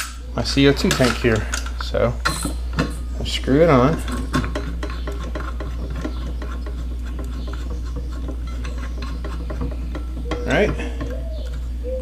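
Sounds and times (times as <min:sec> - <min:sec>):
metal nut rubbing on threads: 0:00.9 - 0:12.0.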